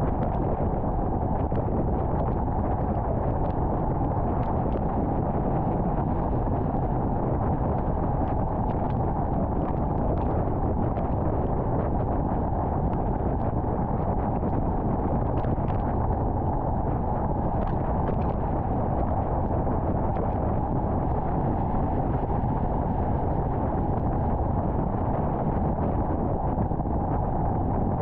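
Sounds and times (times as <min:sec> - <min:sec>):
car road and wind noise: 0:00.0 - 0:28.0.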